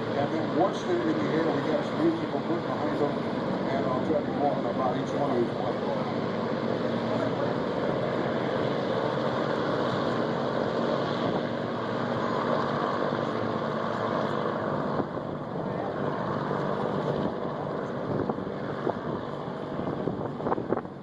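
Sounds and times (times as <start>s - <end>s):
droning model plane engines: 0.0s - 21.0s.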